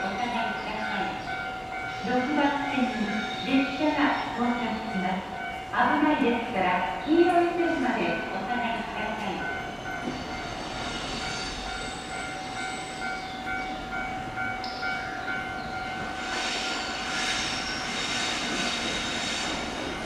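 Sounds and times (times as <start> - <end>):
electric locomotive whine: 0.0 - 20.0
low rumble of train: 0.0 - 20.0.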